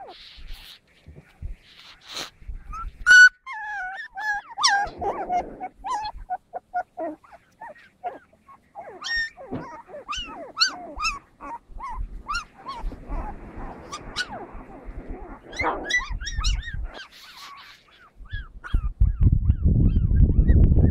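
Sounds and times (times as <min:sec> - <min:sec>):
puppies whimpering and yipping: 0:00.0 - 0:20.9.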